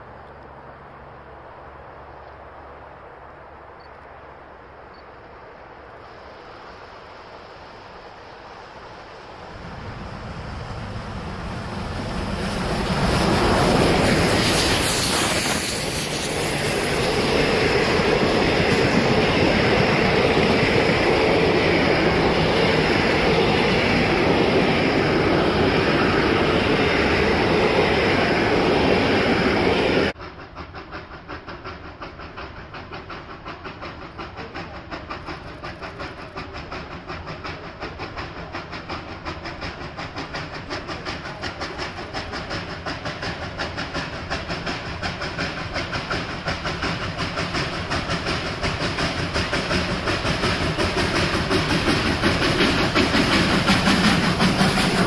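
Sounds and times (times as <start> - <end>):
distant steam locomotive exhaust beats: 0.0 - 55.0
steam locomotive passing: 0.0 - 55.0
train wheels clattering on rail joints: 10.6 - 55.0.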